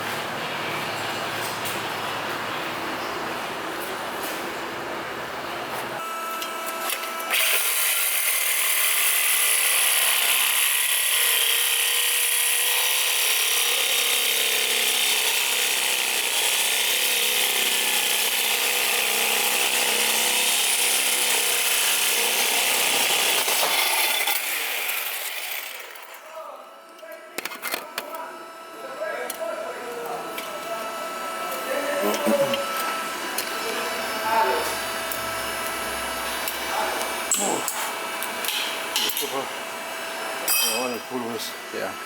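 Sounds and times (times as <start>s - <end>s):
power tool whining: 6.0s - 26.3s, 27.4s - 42.0s.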